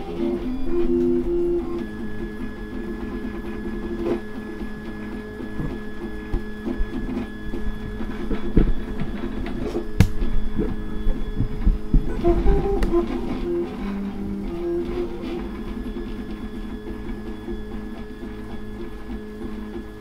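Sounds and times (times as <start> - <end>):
printer stepper motors whining: 0.0 - 20.0.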